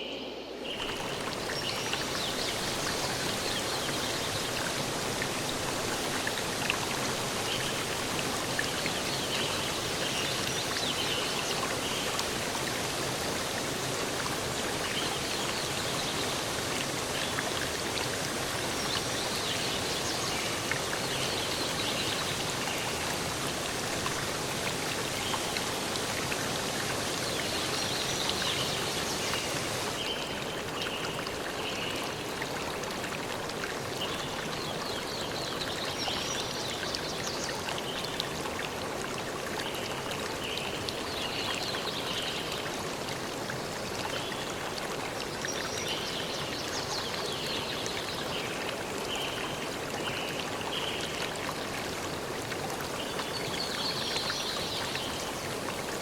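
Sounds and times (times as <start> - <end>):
stream of water running: 0.6 - 56.0.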